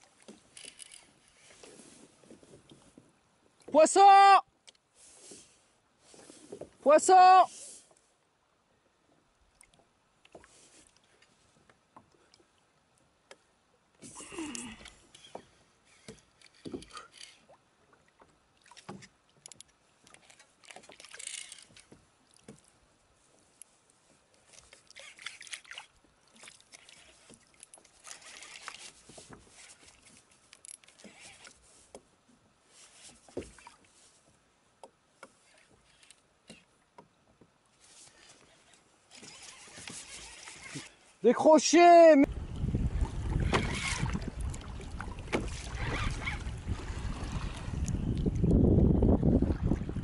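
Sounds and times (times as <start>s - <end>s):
water lapping at hull: 0.0s - 41.2s, 42.2s - 50.0s.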